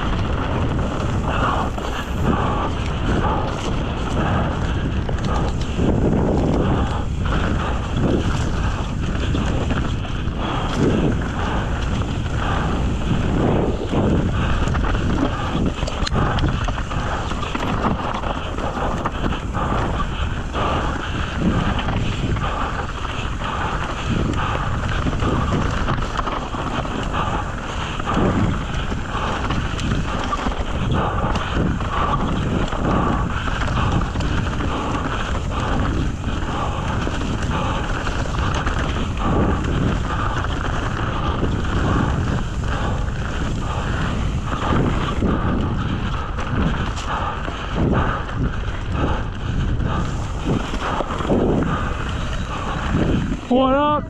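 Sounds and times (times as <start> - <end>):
bike knocking and rattling: 0.0 - 54.0
wind rushing over microphone: 0.0 - 54.0.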